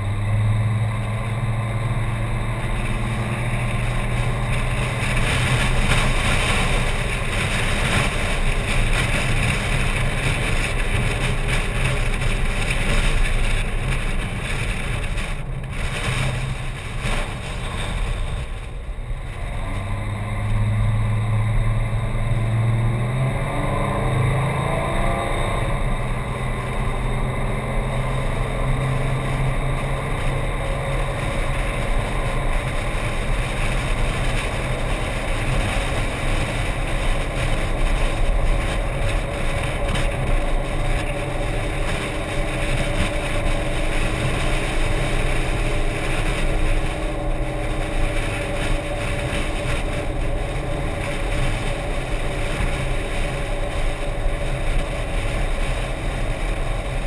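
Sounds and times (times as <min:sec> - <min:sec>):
car engine: 0:00.0 - 0:57.0
rushing wind: 0:00.0 - 0:57.0.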